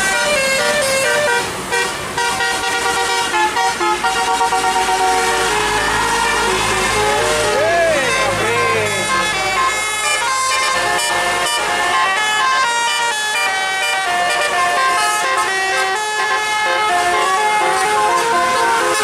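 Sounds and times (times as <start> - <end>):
musical air horn playing a tune: 0.0 - 19.0.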